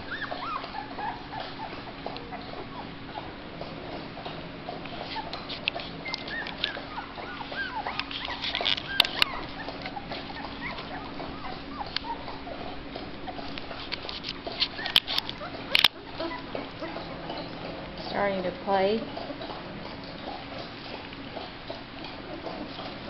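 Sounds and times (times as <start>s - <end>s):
puppies squeaking and whimpering: 0.0s - 23.0s.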